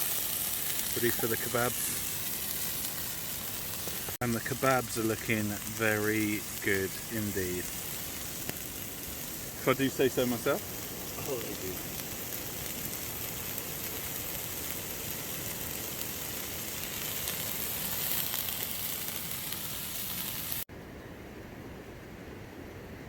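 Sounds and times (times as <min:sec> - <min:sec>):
vegetables sizzling in a skillet: 0:00.0 - 0:20.7
faint steady hiss: 0:00.0 - 0:23.0.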